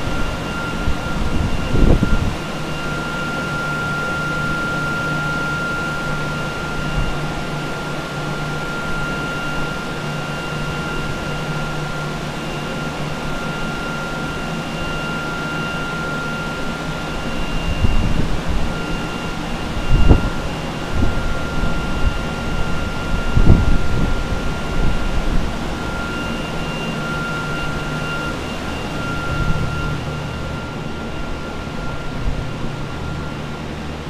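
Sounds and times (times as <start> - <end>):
drying machine whirring: 0.0 - 34.0.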